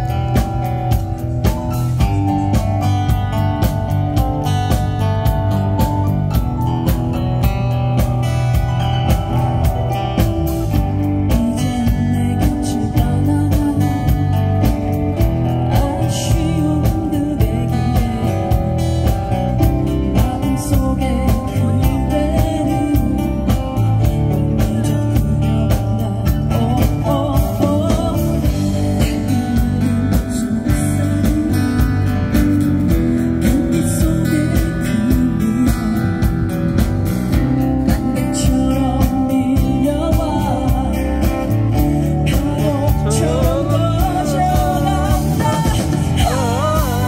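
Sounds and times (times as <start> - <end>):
live band music: 0.0 - 47.0
person singing: 4.6 - 36.8, 37.4 - 47.0.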